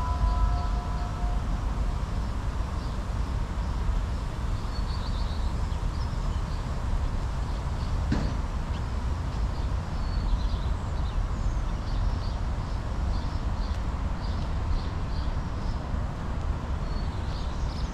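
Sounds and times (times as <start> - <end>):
steady low rumble: 0.0 - 17.9.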